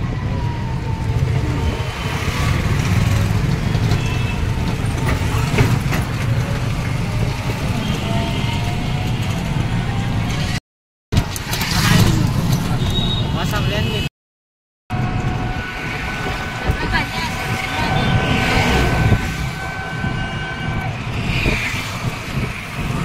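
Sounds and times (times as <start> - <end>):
road and wind rumble: 0.0 - 10.6, 11.2 - 14.0, 14.9 - 23.0.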